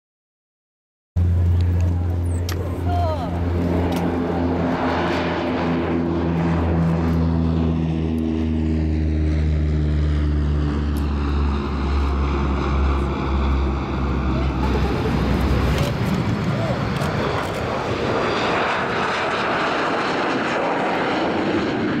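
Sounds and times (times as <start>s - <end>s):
turboprop engines droning: 1.2s - 22.0s.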